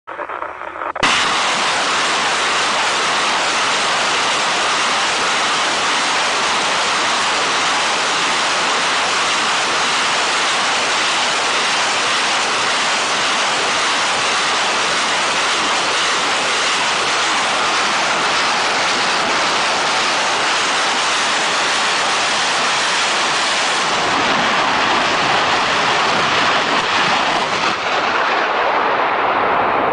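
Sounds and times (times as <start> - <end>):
rocket salvo rushing roar: 0.1 - 29.9.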